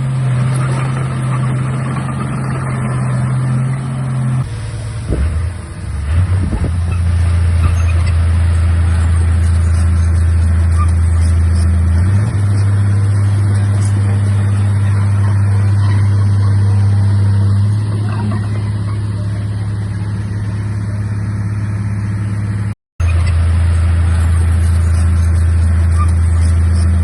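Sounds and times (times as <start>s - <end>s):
bulldozer diesel engine drone: 0.0s - 27.0s.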